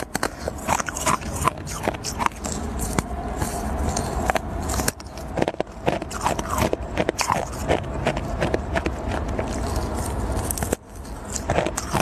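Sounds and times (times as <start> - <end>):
ice crunching while bitten: 0.0 - 12.0.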